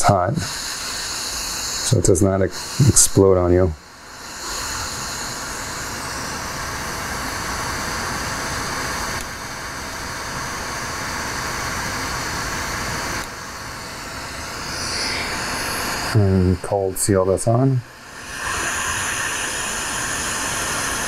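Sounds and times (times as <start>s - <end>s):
torch flame rushing: 0.0s - 21.0s.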